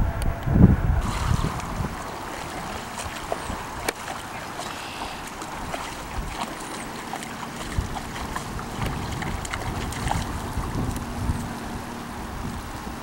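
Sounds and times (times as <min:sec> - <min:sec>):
wind rumbling on microphone: 0:00.0 - 0:13.0
dog splashing through water: 0:01.0 - 0:11.6.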